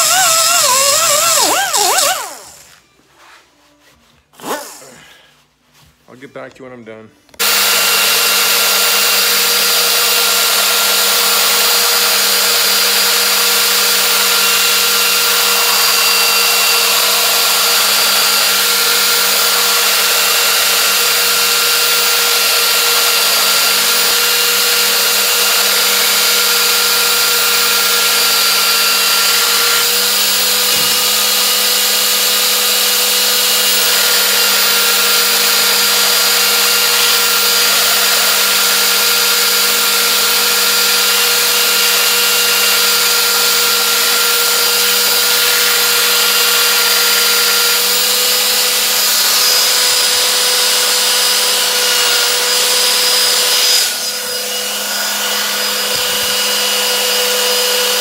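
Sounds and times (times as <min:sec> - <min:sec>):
angle grinder grinding metal: 0:00.0 - 0:02.7, 0:07.4 - 0:58.0.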